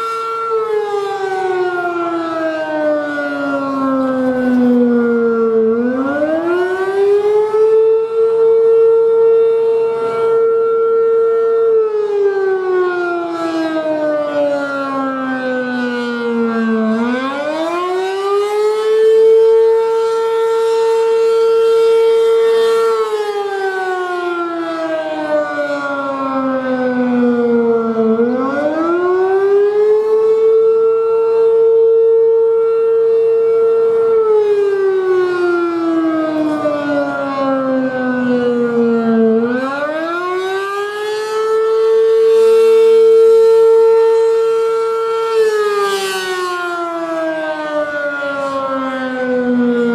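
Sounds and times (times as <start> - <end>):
electromechanical siren wailing: 0.0 - 49.9.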